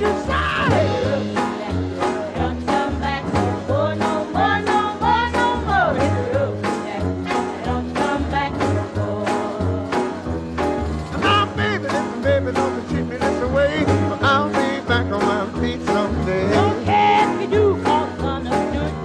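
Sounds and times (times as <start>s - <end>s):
upbeat song with sliding melody: 0.0s - 19.0s.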